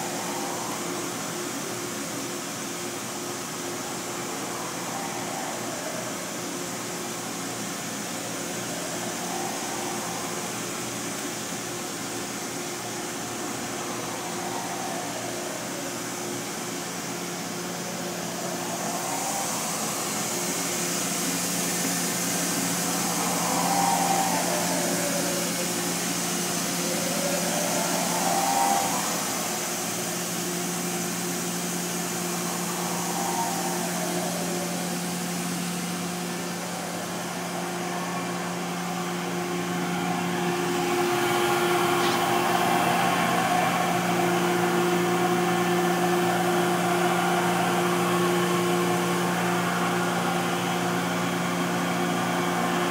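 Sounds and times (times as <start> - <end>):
machine hiss: 0.0 - 52.9
machine hum: 0.0 - 52.9
machine whines rising and falling: 0.0 - 52.9.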